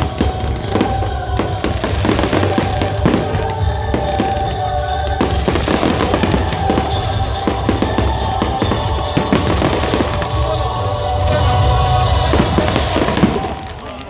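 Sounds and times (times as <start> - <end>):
fireworks bursting and crackling: 0.0 - 14.0
music playing: 0.0 - 14.0.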